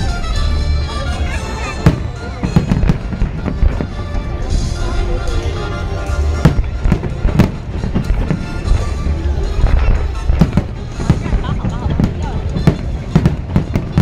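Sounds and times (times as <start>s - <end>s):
music playing: 0.0s - 14.0s
fireworks bangs: 1.8s - 14.0s.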